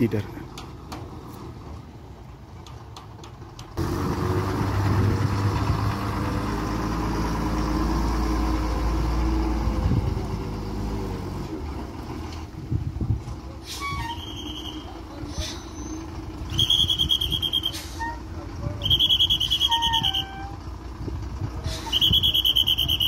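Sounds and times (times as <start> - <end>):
bus diesel engine: 0.0 - 23.0.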